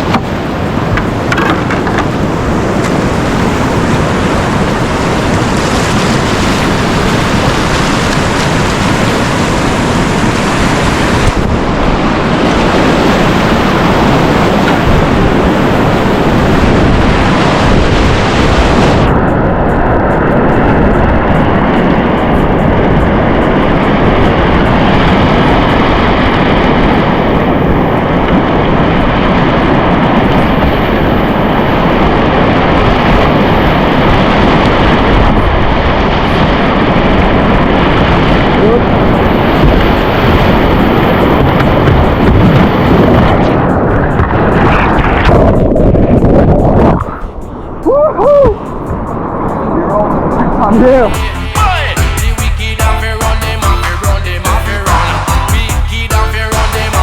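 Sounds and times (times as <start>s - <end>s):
rushing whitewater: 0.0s - 46.3s
wind noise on microphone: 0.0s - 57.0s.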